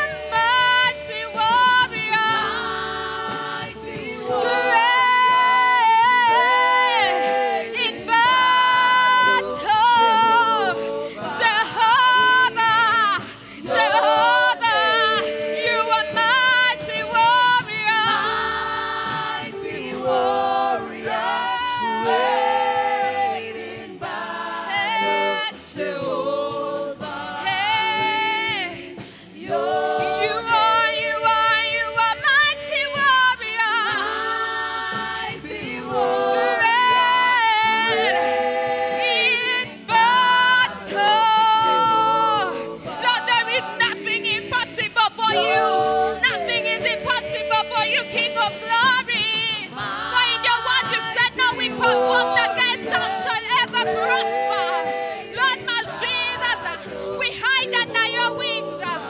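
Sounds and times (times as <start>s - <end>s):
voices singing together: 0.0s - 59.0s.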